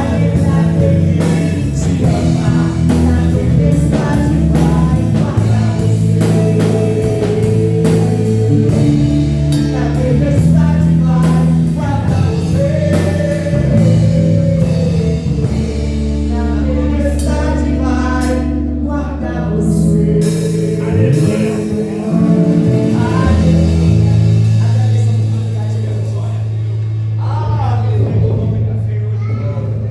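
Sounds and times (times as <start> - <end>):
band with drums and guitar: 0.0 - 18.8, 19.8 - 29.9
woman singing: 0.0 - 24.0.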